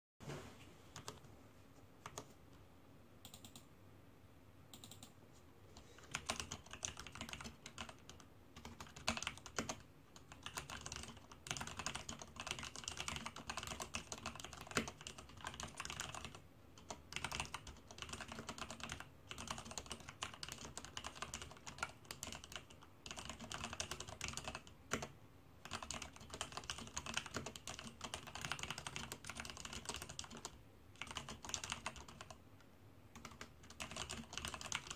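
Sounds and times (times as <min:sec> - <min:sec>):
mechanical keyboard typing: 0:02.0 - 0:02.3, 0:03.2 - 0:03.6, 0:04.7 - 0:05.1, 0:06.0 - 0:32.4, 0:33.1 - 0:34.9.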